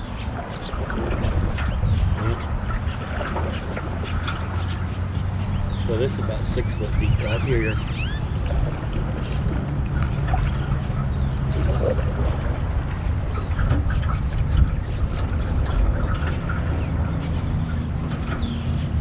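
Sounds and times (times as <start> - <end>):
faint bird calls: 0.0 - 19.0
small water splashes: 0.0 - 19.0
trolling motor hum: 0.0 - 19.0.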